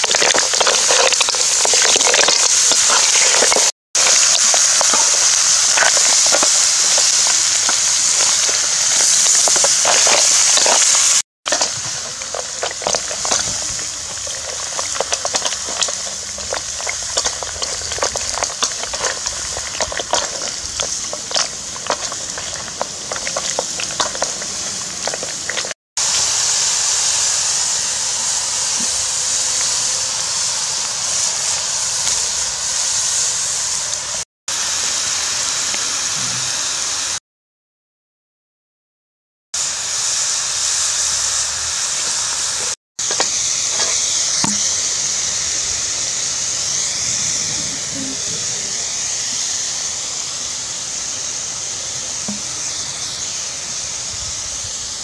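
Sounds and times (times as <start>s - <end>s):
sizzling hiss: 0.0s - 37.2s, 39.6s - 55.0s.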